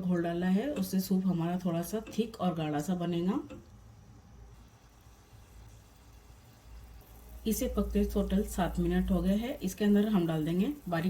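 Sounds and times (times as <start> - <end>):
faint low hum with hiss: 0.0 - 11.0.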